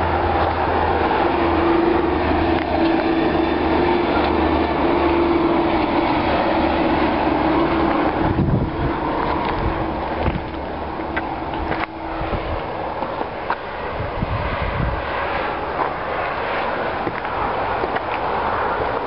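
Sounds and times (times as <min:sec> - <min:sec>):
heavy traffic rumble: 0:00.0 - 0:19.0.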